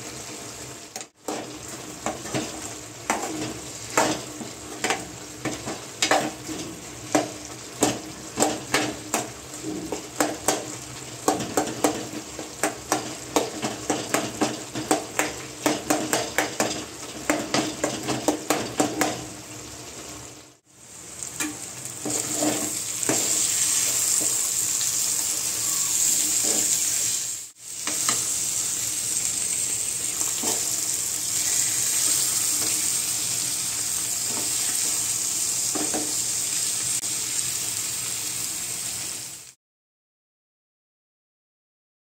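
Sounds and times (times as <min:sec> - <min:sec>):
food sizzling in hot oil: 0:00.0 - 0:39.6.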